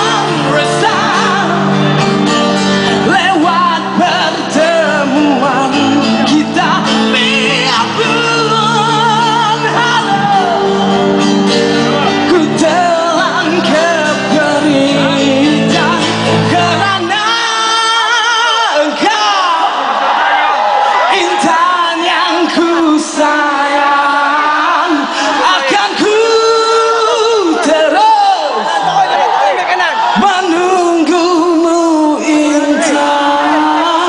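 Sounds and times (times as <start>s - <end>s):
person singing: 0.0s - 19.9s, 20.8s - 29.2s, 29.8s - 34.0s
live band playing: 0.0s - 34.0s.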